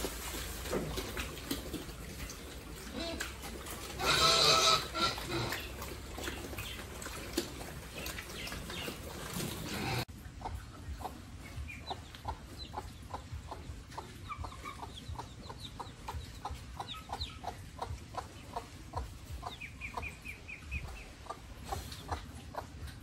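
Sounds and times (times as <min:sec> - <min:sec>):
chickens clucking: 0:00.0 - 0:23.0
chicks peeping: 0:00.7 - 0:23.0.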